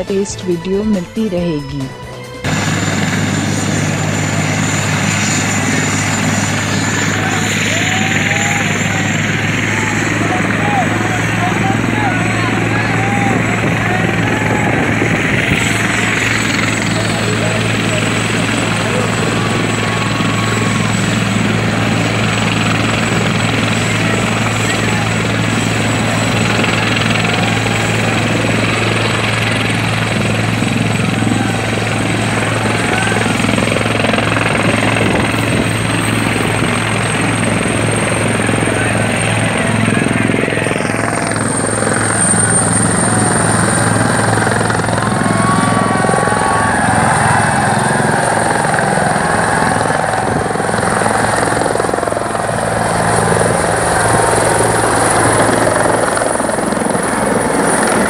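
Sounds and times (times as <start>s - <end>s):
helicopter rotor beat: 0.0s - 58.0s
high turbine whine: 2.4s - 58.0s.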